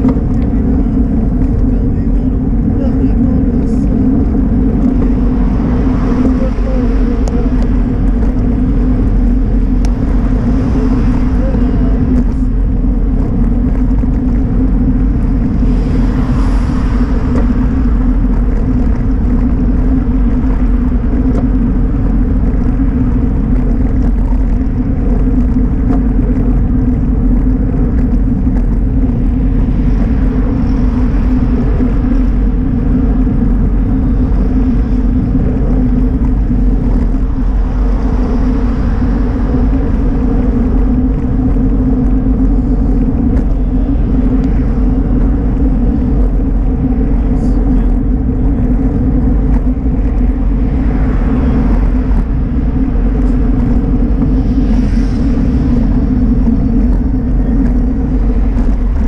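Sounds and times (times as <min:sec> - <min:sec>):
road rumble: 0:00.0 - 0:59.0
wind buffeting: 0:00.0 - 0:59.0.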